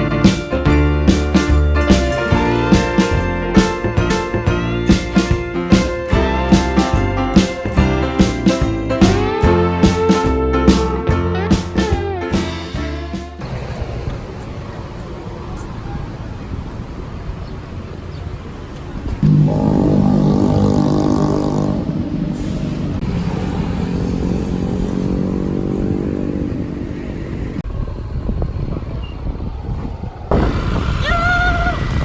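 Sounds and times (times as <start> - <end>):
traffic rushing: 0.0 - 32.0
vehicle engine passing: 1.1 - 32.0.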